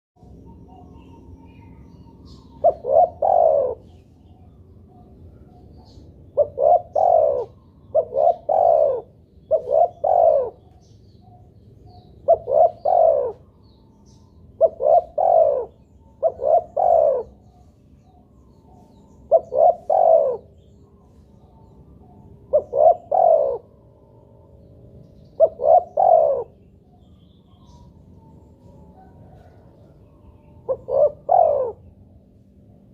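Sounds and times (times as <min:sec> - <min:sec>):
dove cooing: 0:00.6 - 0:32.9.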